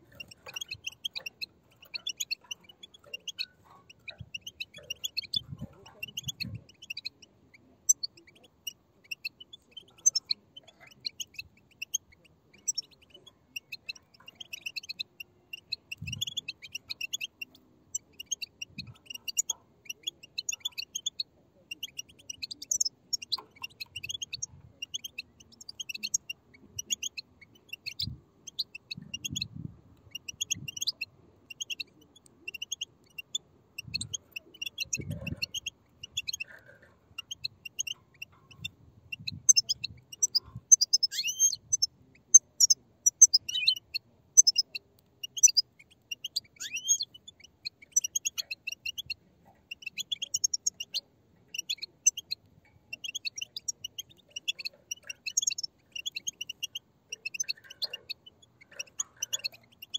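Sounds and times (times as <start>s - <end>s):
goldfinch chicks begging calls: 0.0s - 59.9s.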